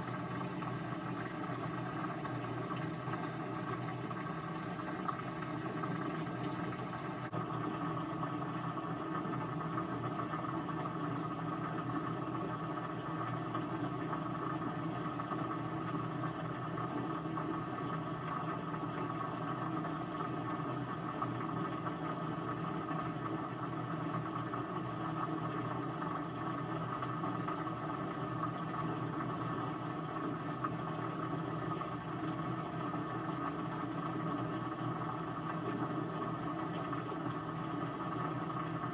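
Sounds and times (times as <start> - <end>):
machine whirring hum: 0.0 - 38.9.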